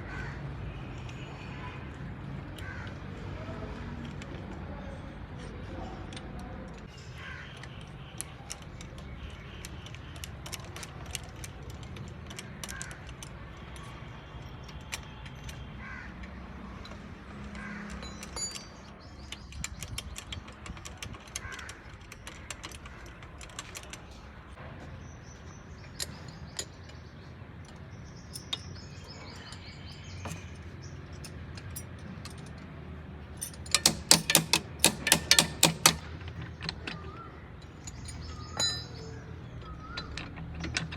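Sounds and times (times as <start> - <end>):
metal tools clicking and knocking: 4.0 - 24.6, 25.4 - 40.9.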